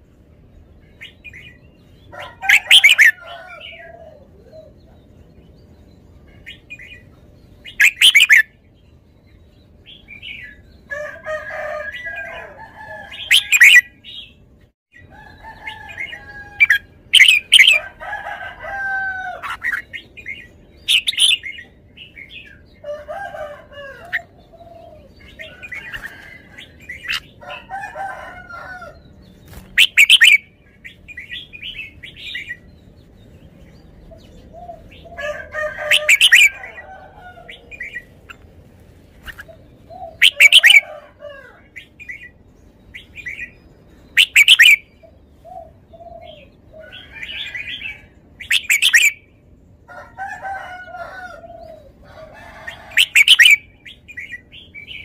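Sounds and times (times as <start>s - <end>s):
bulbul singing: 0.6s - 10.9s, 15.0s - 18.0s, 19.3s - 38.4s, 39.2s - 41.0s, 41.6s - 49.6s, 52.8s - 55.0s.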